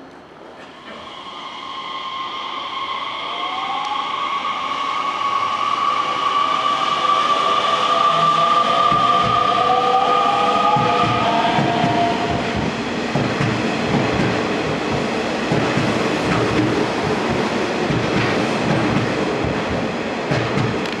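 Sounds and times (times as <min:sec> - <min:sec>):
train cars running past: 0:00.4 - 0:21.0.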